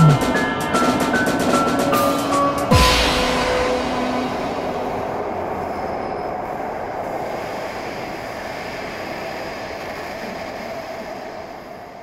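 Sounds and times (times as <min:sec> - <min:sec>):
subway train running: 0:00.0 - 0:12.0.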